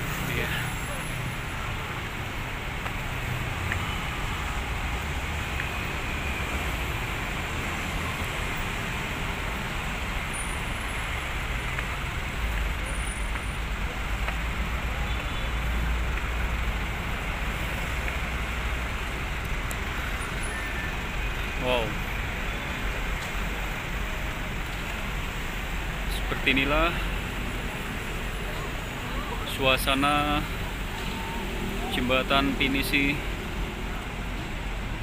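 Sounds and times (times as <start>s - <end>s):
city road traffic: 0.0s - 35.0s.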